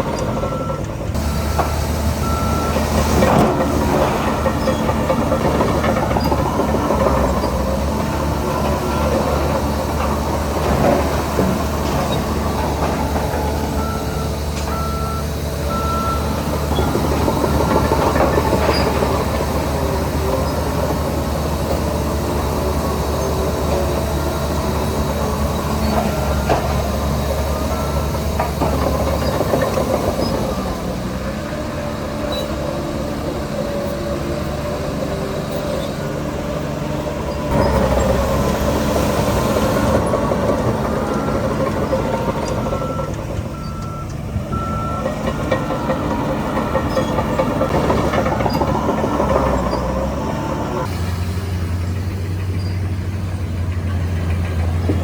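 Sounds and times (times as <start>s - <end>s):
reversing alarm beeping: 0.0s - 36.0s, 37.4s - 50.6s
bulldozer diesel engine running: 0.0s - 55.0s
steel tracks clanking and squeaking: 0.0s - 55.0s.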